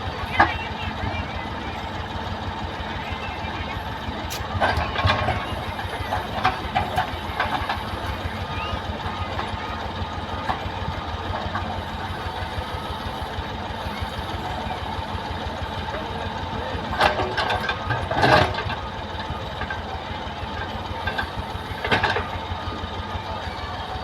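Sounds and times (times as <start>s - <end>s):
heavy machine engine chugging: 0.0s - 24.0s.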